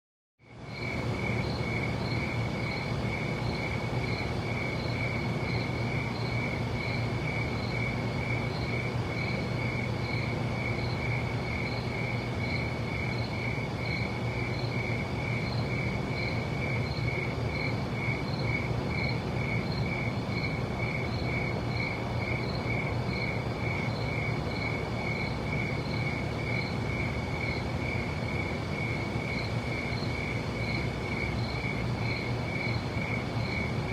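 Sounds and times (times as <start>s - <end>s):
cricket chirping: 0.4s - 33.9s
constant hiss: 0.5s - 33.9s.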